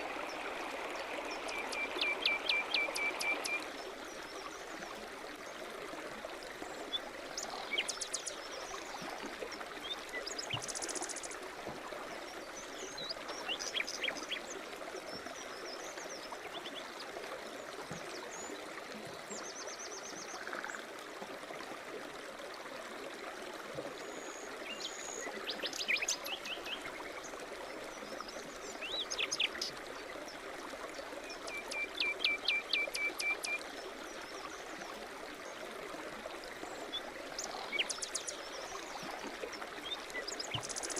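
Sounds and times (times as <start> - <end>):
forest stream running: 0.0 - 40.9.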